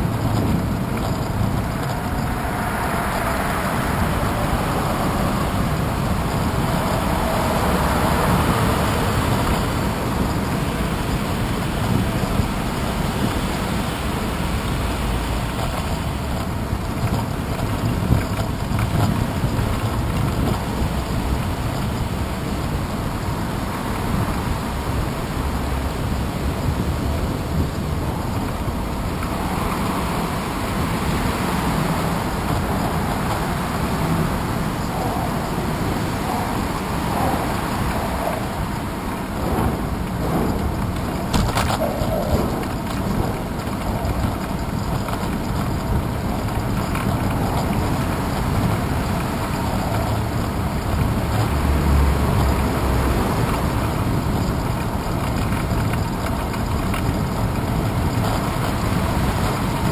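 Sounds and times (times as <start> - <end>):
bicycle rolling noise: 0.0 - 59.9
wind noise: 0.0 - 59.9.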